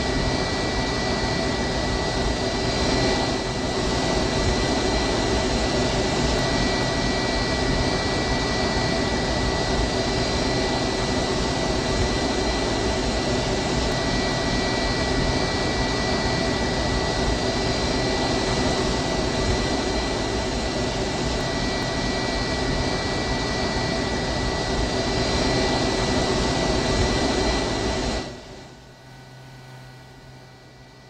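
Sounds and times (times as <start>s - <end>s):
jet airliner roar with whine: 0.0s - 31.0s.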